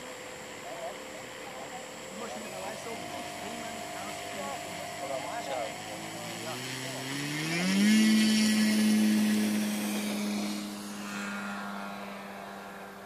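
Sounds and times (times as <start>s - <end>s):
electric model plane motor droning: 0.0s - 13.0s.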